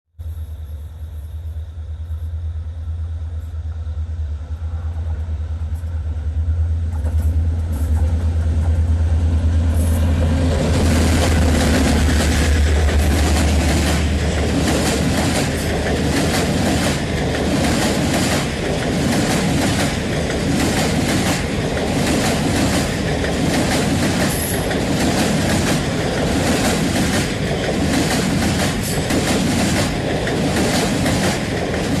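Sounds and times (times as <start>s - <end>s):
train rumbling past: 0.2s - 32.0s
train wheels clattering on rails: 4.9s - 32.0s.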